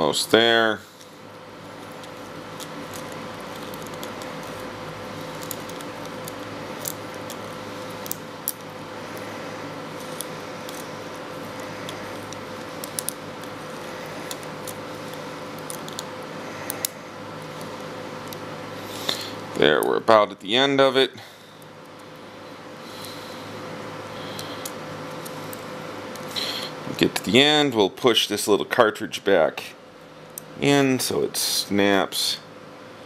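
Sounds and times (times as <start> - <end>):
background hum: 0.0 - 33.0.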